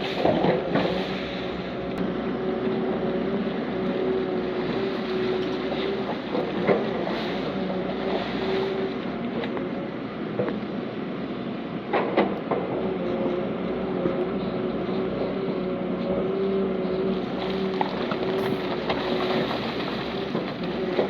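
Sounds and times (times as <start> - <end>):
heavy diesel machinery droning: 0.0 - 21.0.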